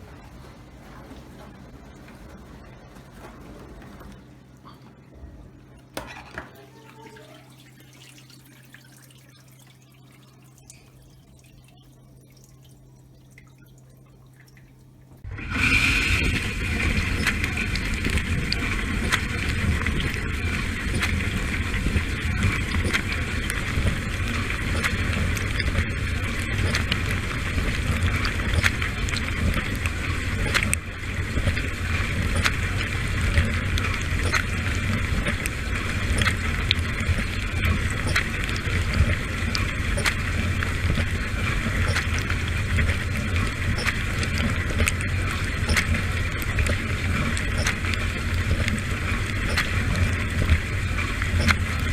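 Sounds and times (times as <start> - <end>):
wash pump humming: 0.0 - 51.9
drops ticking: 5.8 - 15.3, 16.7 - 51.9
water spraying and splashing: 6.5 - 51.9.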